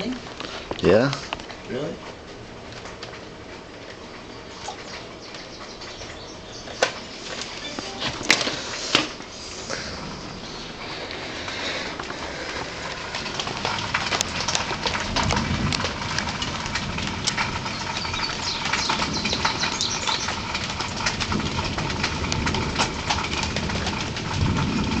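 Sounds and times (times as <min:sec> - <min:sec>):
rain falling and dripping: 0:00.0 - 0:25.0.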